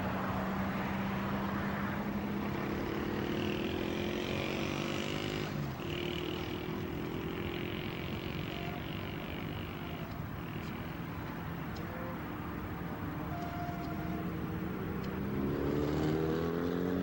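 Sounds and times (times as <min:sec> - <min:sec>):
diesel locomotive engine humming: 0:01.7 - 0:15.5.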